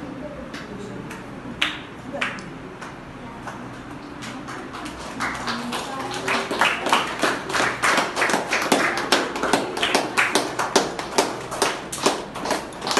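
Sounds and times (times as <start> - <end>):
people clapping in rhythm: 0.5 - 12.9.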